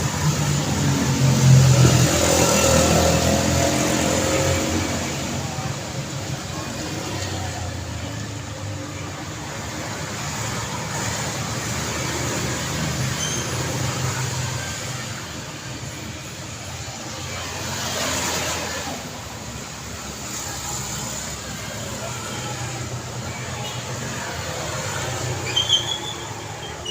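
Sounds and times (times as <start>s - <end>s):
cars passing: 0.0s - 26.9s
motorcycles passing: 0.0s - 26.9s.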